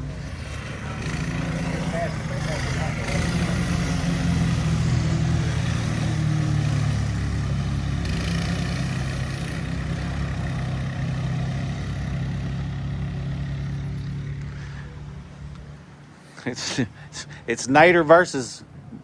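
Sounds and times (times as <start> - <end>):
vehicle engine running: 0.0 - 16.2.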